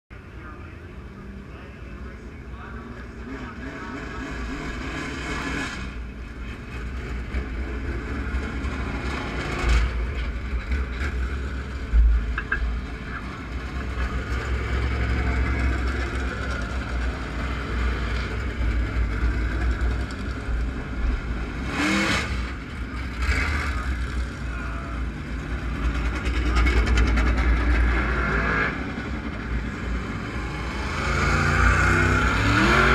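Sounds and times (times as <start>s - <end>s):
rumble of distant race cars: 0.1s - 32.9s
race car engines revving past: 2.8s - 32.9s.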